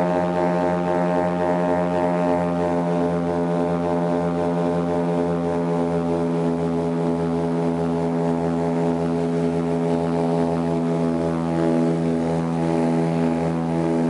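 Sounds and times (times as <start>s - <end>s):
propeller engine droning: 0.0s - 14.0s.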